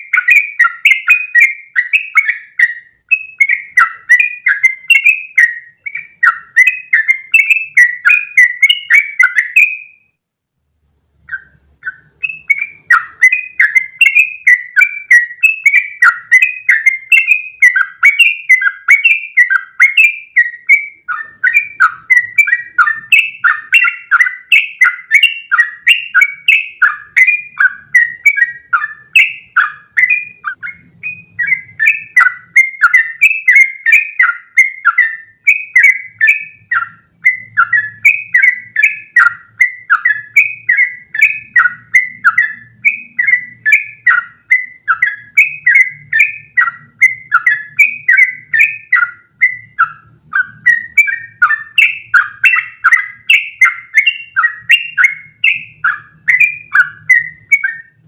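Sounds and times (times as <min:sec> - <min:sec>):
bird chirping song: 0:00.0 - 0:58.0.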